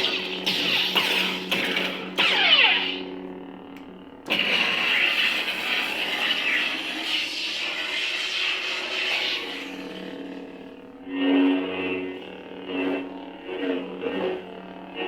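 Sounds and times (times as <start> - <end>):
lightsaber blade hum: 0.0 - 3.6, 4.2 - 15.0.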